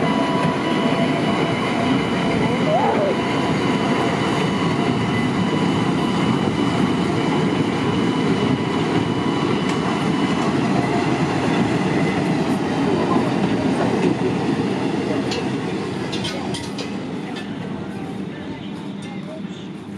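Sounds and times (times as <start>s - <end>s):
wheels rumbling on rail: 0.0s - 19.9s.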